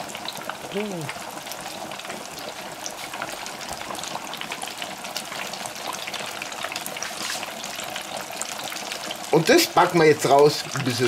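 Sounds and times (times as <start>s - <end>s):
oil bubbling and crackling: 0.0s - 11.0s.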